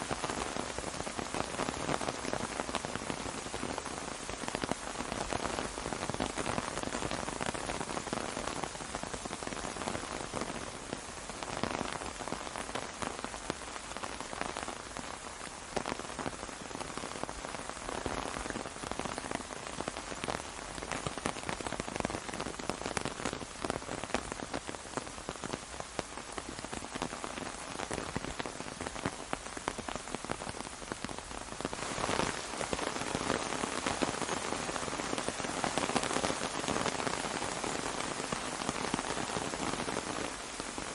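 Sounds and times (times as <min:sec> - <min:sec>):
rain falling on an umbrella: 0:00.0 - 0:40.9.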